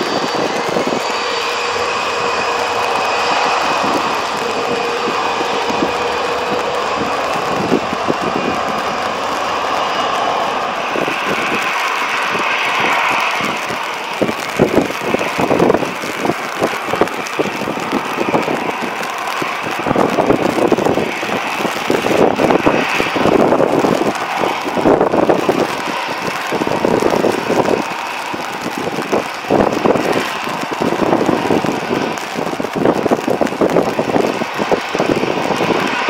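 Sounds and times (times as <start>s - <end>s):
jet engines whining: 0.0s - 36.0s
wind on microphone: 0.0s - 36.0s.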